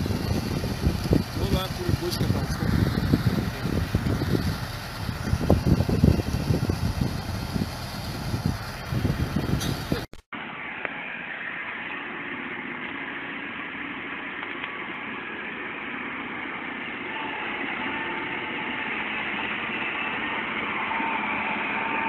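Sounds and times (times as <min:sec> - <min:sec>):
heavy truck engine running: 0:00.0 - 0:22.0.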